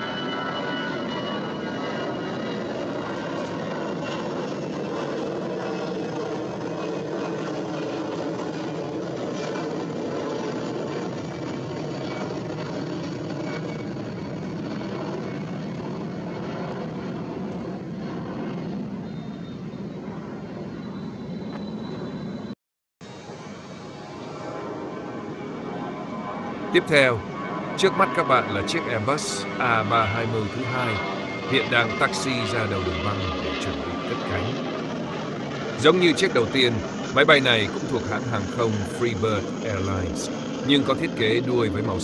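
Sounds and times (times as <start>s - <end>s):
high jet engine whine: 0.0s - 42.0s
jet engines roaring: 0.0s - 42.0s.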